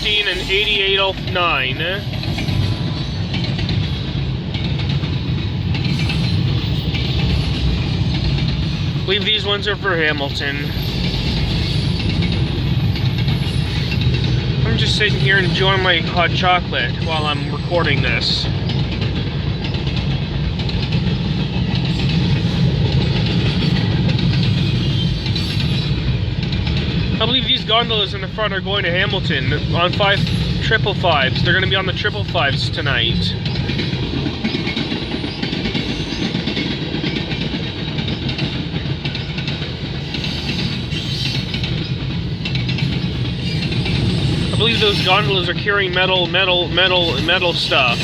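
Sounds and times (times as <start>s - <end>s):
freight train wheels rumbling on rail: 0.0s - 48.0s.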